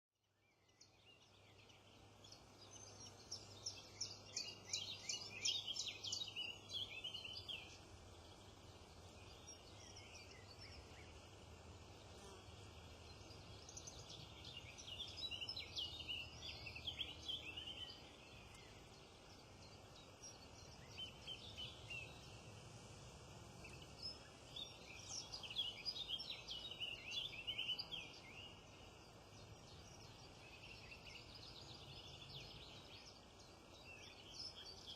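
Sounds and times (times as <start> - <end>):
small songbirds chirping: 0.2 - 34.9
faint steady low hum: 0.4 - 34.9.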